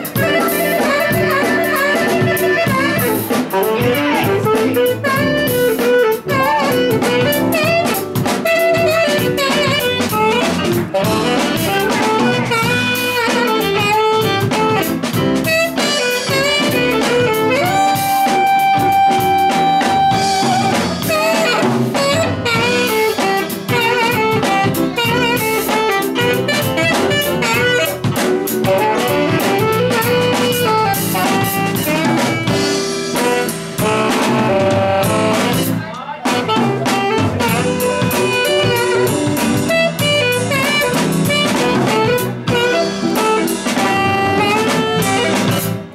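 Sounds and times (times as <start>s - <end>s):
blues band playing: 0.0s - 45.9s
lead melody bending notes: 0.0s - 45.9s.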